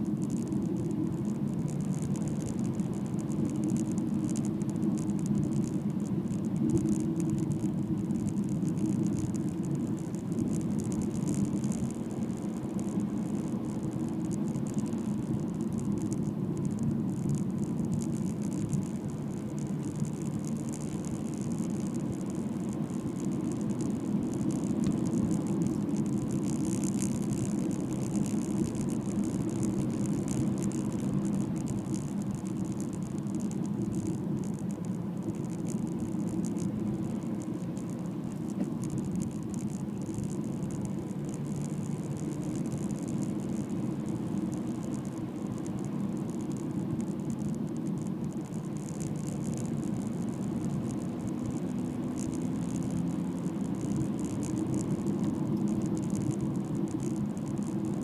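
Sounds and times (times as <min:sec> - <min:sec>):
car engine and tyre rumble: 0:00.0 - 0:58.0
flickering high hiss: 0:00.0 - 0:58.0.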